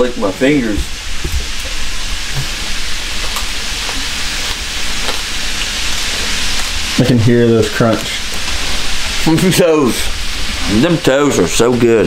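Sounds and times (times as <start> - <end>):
grease sizzling in a frying pan: 0.0 - 12.0.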